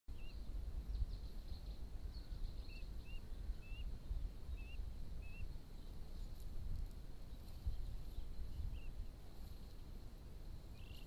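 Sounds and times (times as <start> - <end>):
bird chirping: 0.1 - 10.0, 10.6 - 11.0
low outdoor rumble: 0.1 - 11.0.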